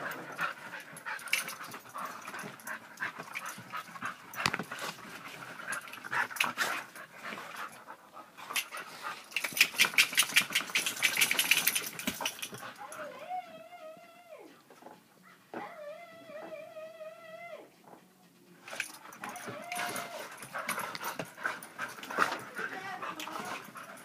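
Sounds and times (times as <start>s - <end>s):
dogs panting: 0.0s - 13.2s, 17.7s - 24.0s.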